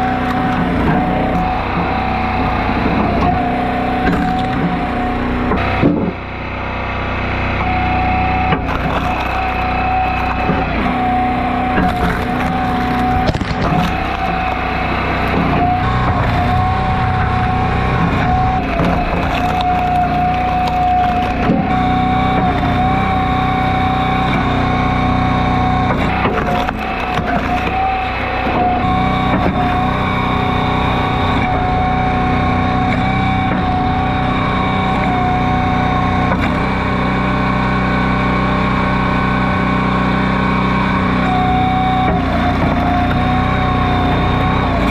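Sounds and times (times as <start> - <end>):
wood cracking and splintering: 0.0 - 6.3, 7.2 - 44.9
log splitter engine running: 0.0 - 44.9
wavering hydraulic whine: 0.0 - 44.9.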